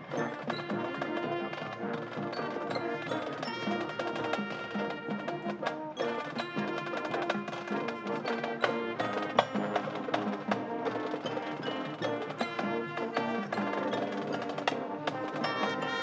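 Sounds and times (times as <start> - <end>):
marching band music: 0.0 - 16.0
wood-block strikes: 0.0 - 16.0.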